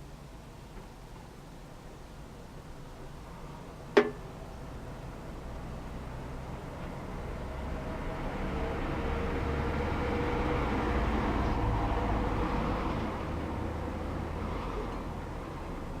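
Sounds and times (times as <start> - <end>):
passing vehicle rumble: 3.1 - 16.0.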